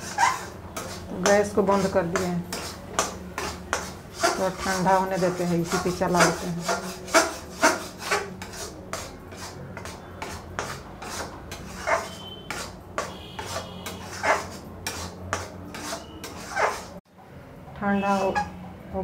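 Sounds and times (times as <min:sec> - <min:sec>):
spatula scraping a pan: 0:00.0 - 0:17.0, 0:18.0 - 0:18.6.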